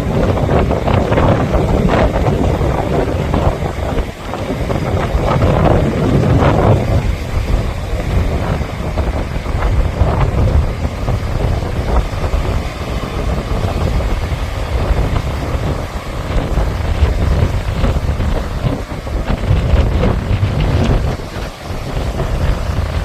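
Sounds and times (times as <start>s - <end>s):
gusty wind buffeting microphone: 0.0s - 23.0s
sea waves on shore: 0.0s - 23.0s.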